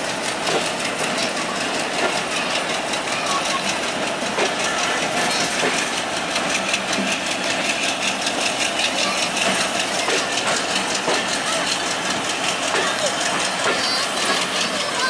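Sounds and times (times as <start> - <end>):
rhythmic wheel clatter: 0.0 - 15.0
train wheels rumbling on rails: 0.0 - 15.0.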